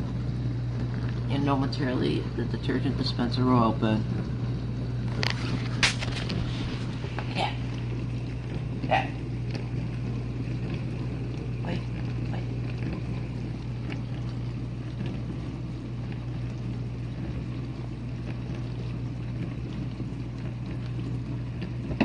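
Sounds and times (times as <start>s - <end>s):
dishwasher pump motor hum: 0.0s - 22.0s
water spraying inside dishwasher: 0.8s - 22.0s.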